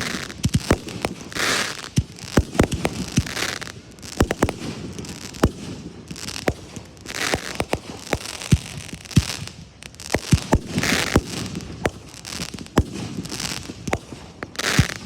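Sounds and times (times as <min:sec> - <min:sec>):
firework shells booming: 0:00.0 - 0:15.0
fireworks crackling: 0:00.0 - 0:15.0.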